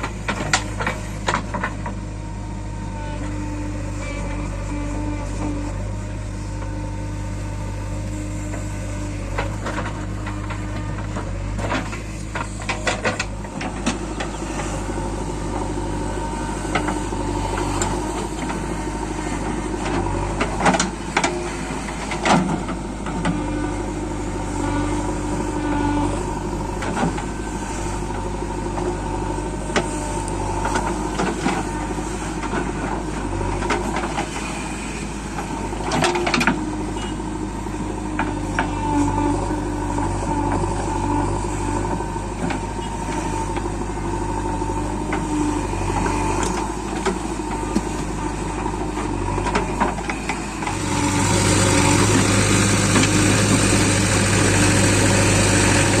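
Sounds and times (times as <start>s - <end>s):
diesel engines humming: 0.0s - 56.0s.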